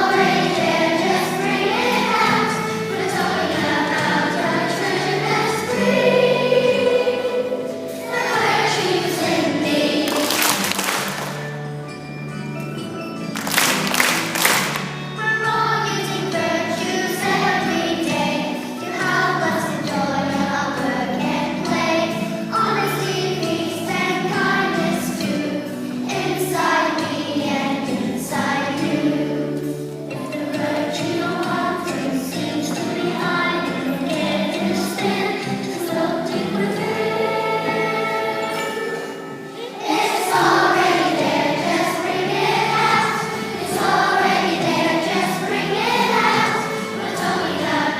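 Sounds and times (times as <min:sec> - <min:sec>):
young children singing: 0:00.0 - 0:11.5, 0:13.4 - 0:47.9
musical accompaniment: 0:00.0 - 0:47.9.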